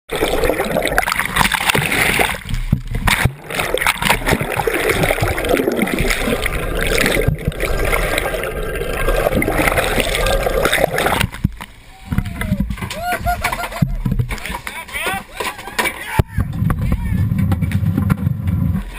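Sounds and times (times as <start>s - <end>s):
water splashing and sloshing: 0.1s - 18.9s.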